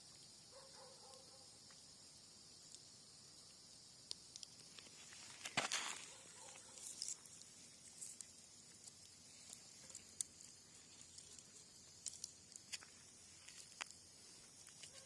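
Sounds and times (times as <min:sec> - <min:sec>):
campfire crackling: 0:00.0 - 0:15.0
faint steady hiss: 0:00.0 - 0:15.0.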